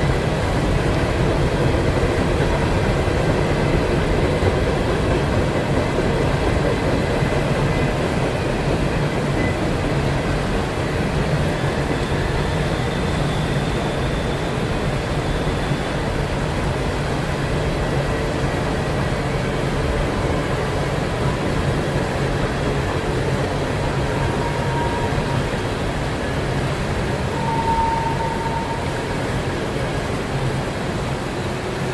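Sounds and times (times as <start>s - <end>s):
train rolling past: 0.0s - 31.9s.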